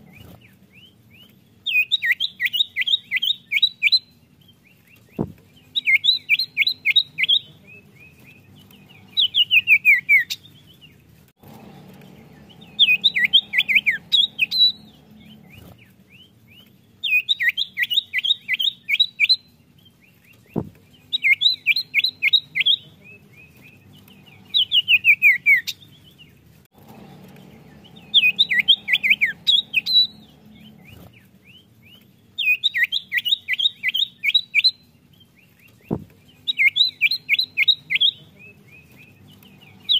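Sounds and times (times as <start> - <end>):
bird singing whistled notes: 0.0 - 11.0, 11.8 - 26.4, 27.1 - 39.9.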